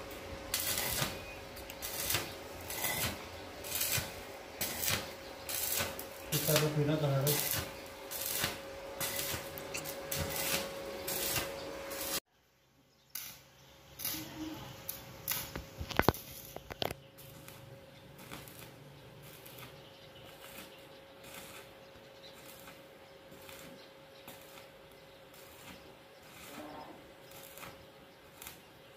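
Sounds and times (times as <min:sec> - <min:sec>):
arc welder crackling: 0:00.0 - 0:12.3, 0:13.1 - 0:28.9.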